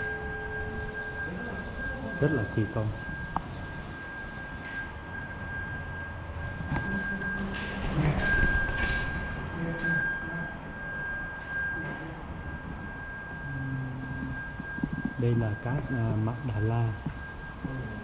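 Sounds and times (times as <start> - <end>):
metal funnels ringing: 0.0 - 18.0.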